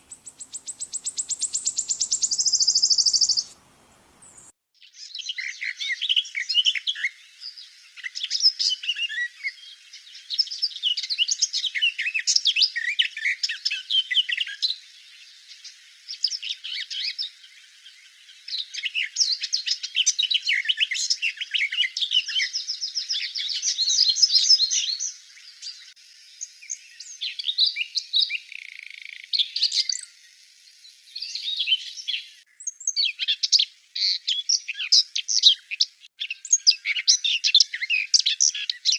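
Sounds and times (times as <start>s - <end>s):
warbler singing warbling phrases: 0.0s - 38.9s.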